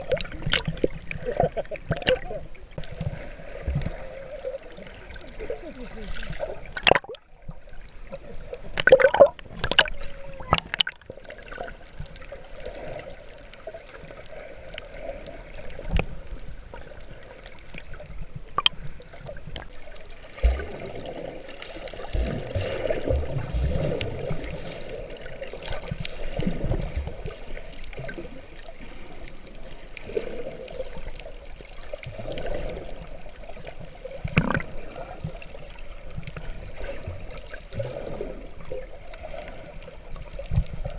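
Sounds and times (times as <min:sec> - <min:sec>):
muffled underwater sloshing: 0:00.0 - 0:40.9.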